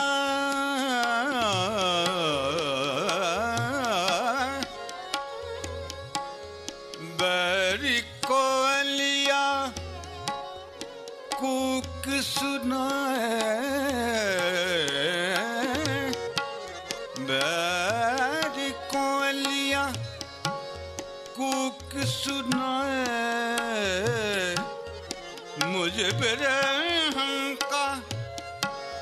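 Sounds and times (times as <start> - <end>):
person singing ornamented runs: 0.0 - 29.0
tabla strokes: 0.0 - 29.0.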